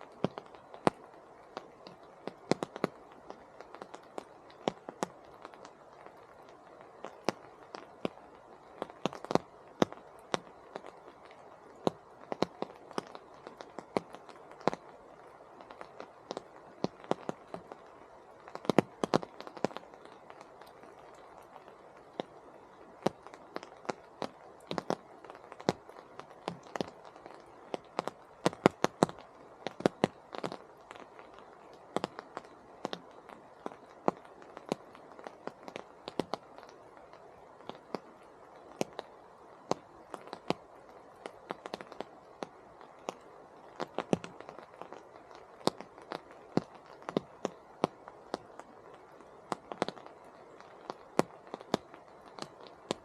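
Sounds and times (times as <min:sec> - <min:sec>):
soft rain patter: 0:00.0 - 0:53.0.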